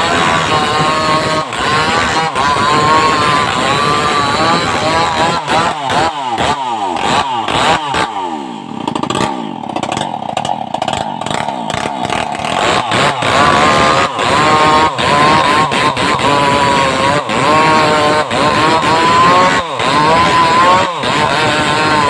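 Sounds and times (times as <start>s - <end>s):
chainsaw running: 0.0s - 22.0s.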